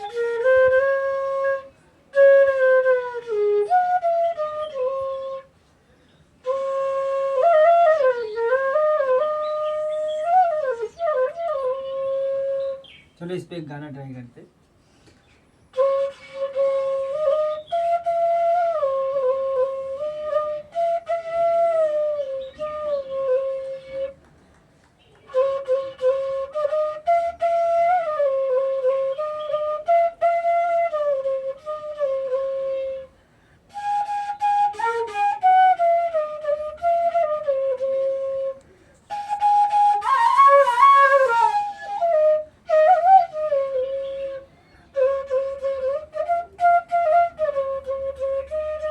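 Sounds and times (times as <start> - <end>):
bamboo flute melody: 0.0 - 13.2, 15.7 - 24.3, 25.0 - 48.9.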